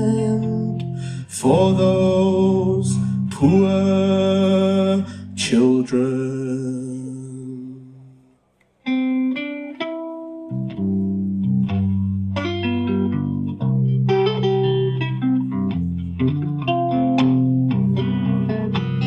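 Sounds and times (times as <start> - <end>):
plucked guitar notes: 0.0 - 5.8, 8.8 - 19.0
guitar-led band music: 0.0 - 6.3, 8.9 - 19.0
bass guitar: 0.0 - 7.6, 9.3 - 19.0.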